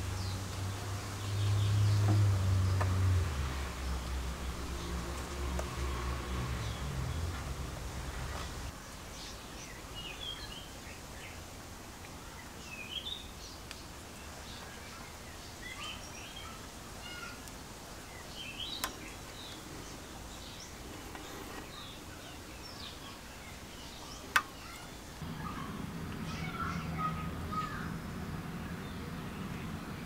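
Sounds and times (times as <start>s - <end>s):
low background hiss: 0.0s - 30.0s
small birds chirping: 0.0s - 30.0s.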